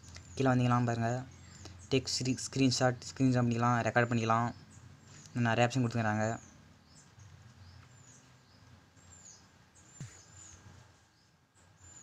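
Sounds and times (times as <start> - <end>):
low room hum: 0.0 - 12.0
faint high bird chirps: 0.1 - 2.1, 3.3 - 12.0.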